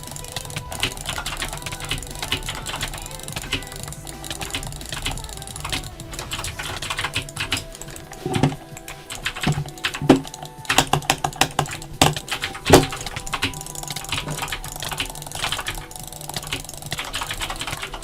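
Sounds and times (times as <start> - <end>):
irregular clicking and tapping: 0.0 - 18.0.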